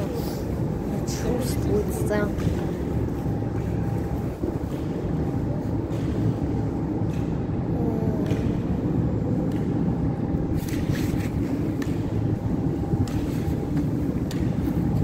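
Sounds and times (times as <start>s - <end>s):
faint pitch-bending whine: 0.0s - 15.0s
metro platform low rumble: 0.0s - 15.0s.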